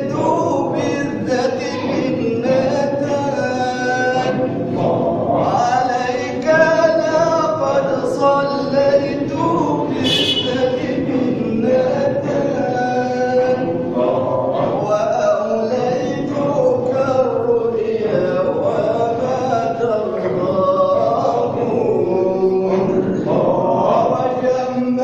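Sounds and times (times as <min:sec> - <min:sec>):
men chanting: 0:00.0 - 0:25.0.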